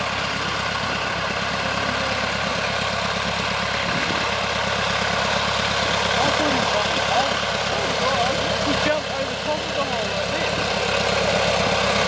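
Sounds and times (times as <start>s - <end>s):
propeller engine running: 0.0s - 12.0s.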